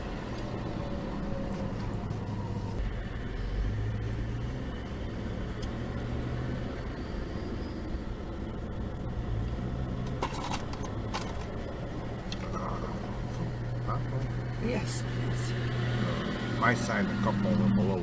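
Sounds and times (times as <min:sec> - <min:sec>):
car engine rumble inside cabin: 0:00.0 - 0:18.0.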